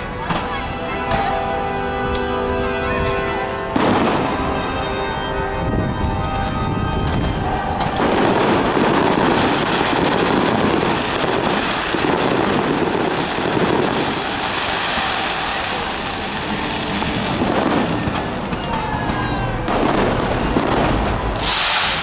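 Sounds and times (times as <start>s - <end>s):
fireworks crackling bursts: 0.0s - 2.3s, 3.3s - 22.0s.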